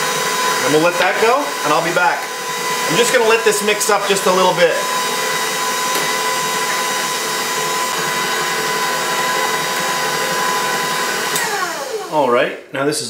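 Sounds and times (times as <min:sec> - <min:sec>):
stand mixer running: 0:00.0 - 0:12.5.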